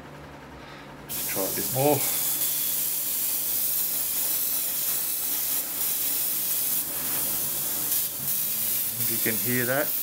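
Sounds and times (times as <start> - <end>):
airbrush hissing: 1.1 - 10.0.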